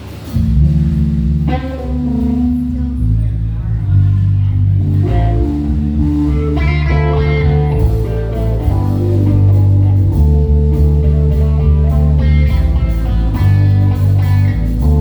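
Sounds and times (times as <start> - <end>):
guitar: 0.0 - 15.0
live band playing: 0.0 - 15.0.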